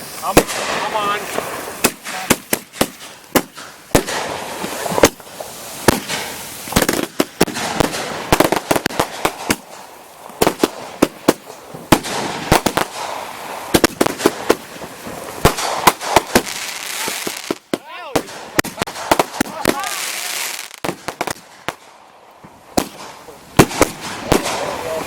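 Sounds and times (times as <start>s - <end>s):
firework crackle: 0.0s - 25.0s
fireworks banging: 0.0s - 25.0s.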